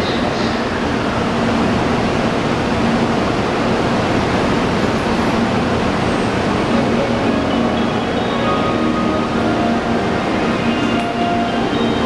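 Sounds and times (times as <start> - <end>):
train ventilation fans rushing: 0.0 - 12.0.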